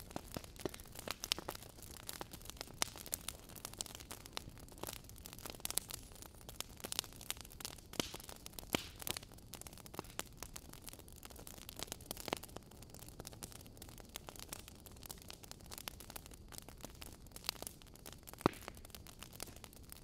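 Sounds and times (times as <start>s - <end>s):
logs crackling in fire: 0.0s - 20.0s
low steady hiss: 0.0s - 20.0s
sharp pops of fire: 0.0s - 20.0s.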